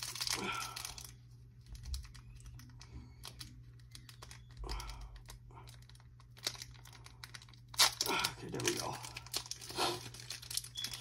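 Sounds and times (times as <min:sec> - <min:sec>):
foil wrapper crinkling: 0:00.0 - 0:11.0
fingers clicking on foil: 0:01.8 - 0:11.0.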